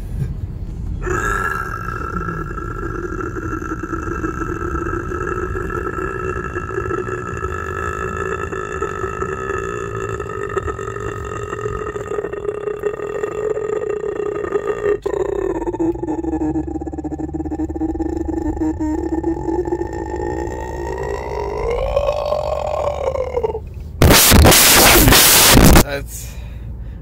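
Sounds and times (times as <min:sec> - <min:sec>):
car road noise: 0:00.0 - 0:27.0
throaty burp-like vocal drone: 0:01.0 - 0:25.8.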